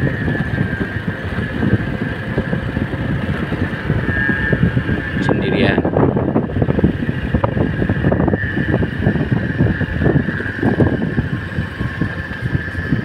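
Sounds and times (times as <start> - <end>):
motorcycle engine running: 0.0 - 13.0
steady high whine: 0.0 - 13.0
wind buffeting microphone: 0.0 - 13.0.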